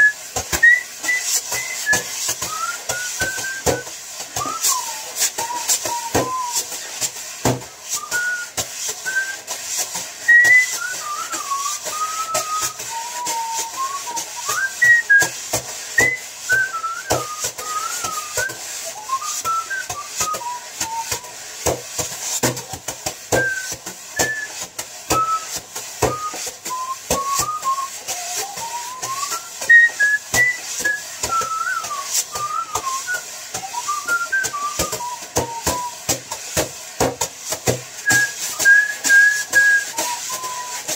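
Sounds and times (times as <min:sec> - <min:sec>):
man whistling a tune: 0:00.0 - 0:40.9
utensils drumming on cardboard box: 0:00.0 - 0:40.9.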